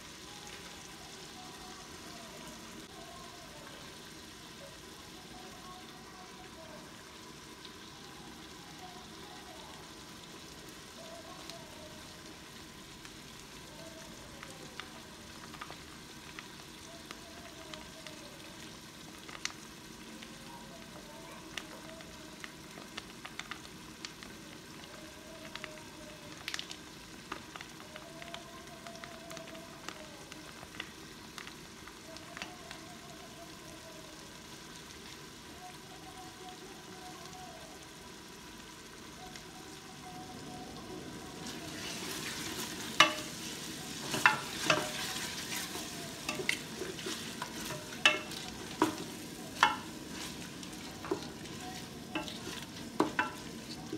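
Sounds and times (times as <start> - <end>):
curry sizzling in a pot: 0.0 - 53.9.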